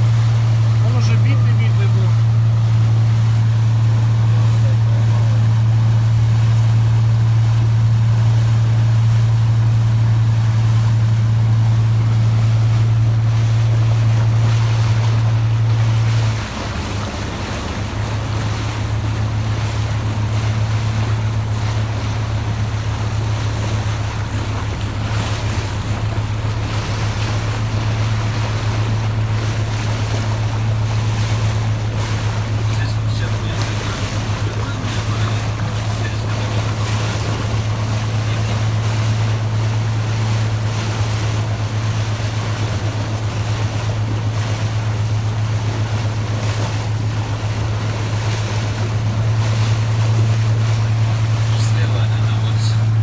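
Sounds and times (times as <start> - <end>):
boat engine droning: 0.0 - 53.0
water noise: 0.0 - 53.0
wind: 0.0 - 53.0.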